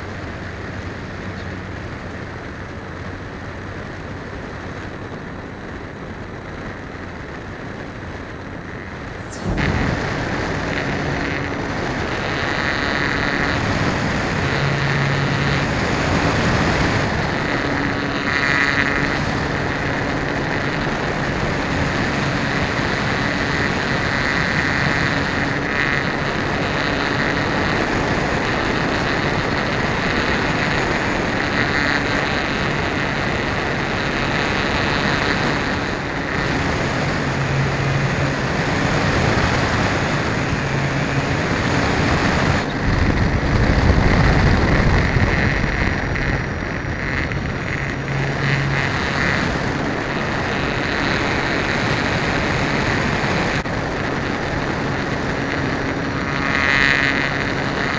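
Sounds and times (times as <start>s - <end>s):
electric motor and propeller whine: 0.0s - 57.9s
wind rushing over microphone: 0.0s - 57.9s.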